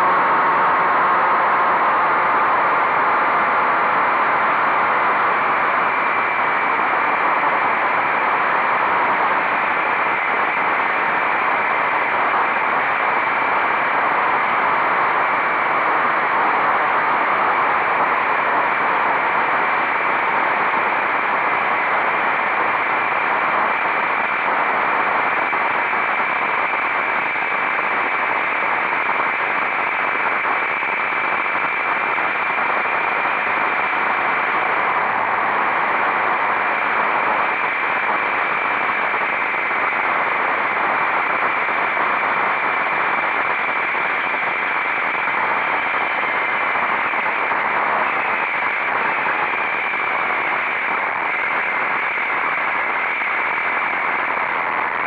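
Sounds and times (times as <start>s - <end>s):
faint steady whine: 0.0s - 55.0s.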